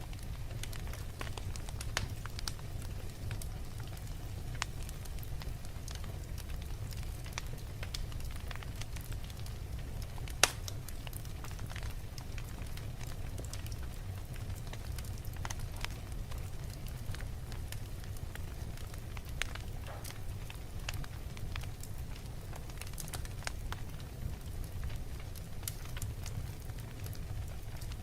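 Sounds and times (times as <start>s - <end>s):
wood fire crackling: 0.0s - 28.0s
fire pops: 0.1s - 28.0s.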